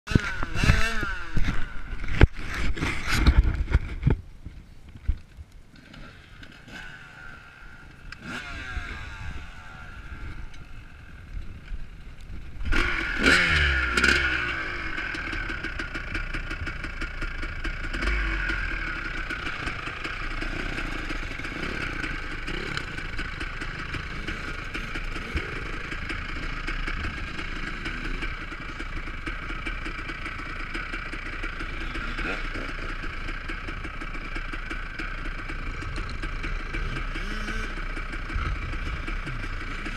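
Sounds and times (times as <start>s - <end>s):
drone of motorcycle engines: 0.1s - 39.9s
motorcycles revving past: 5.8s - 11.3s, 12.6s - 29.8s, 30.5s - 39.9s.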